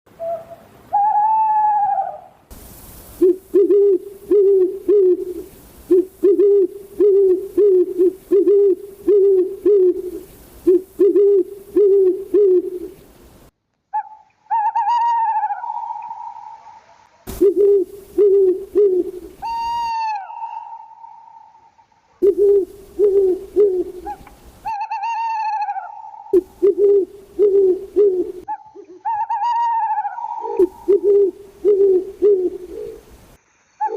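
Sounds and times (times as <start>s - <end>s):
background hiss: 0.1s - 33.9s
owl calling: 0.2s - 2.4s, 3.2s - 13.0s, 13.9s - 33.0s.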